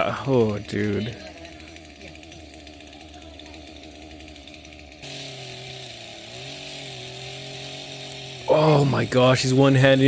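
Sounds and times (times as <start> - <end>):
chainsaw running: 0.0 - 10.0.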